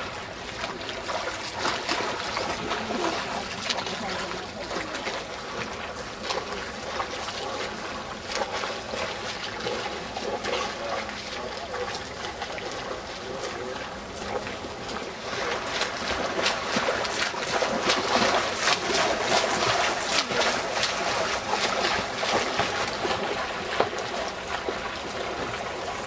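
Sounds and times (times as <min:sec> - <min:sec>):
sloshing water: 0:00.0 - 0:26.0
swimmer's strokes splashing: 0:00.0 - 0:26.0.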